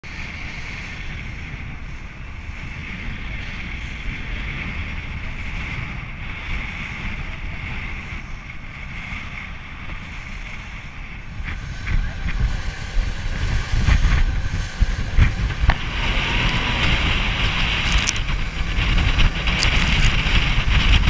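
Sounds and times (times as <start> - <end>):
boat engine droning: 0.0 - 21.0
wind buffeting microphone: 0.0 - 21.0.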